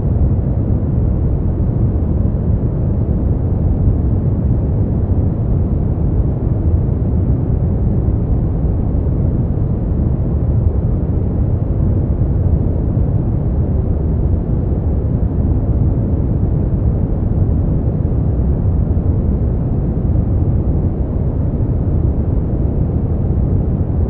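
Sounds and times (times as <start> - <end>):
deep muffled white noise hiss: 0.0 - 24.0.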